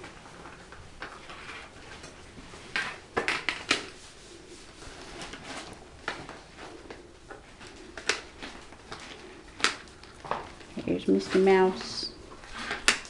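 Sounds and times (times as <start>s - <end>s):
puppies scuffling on tile floor: 0.0s - 13.0s.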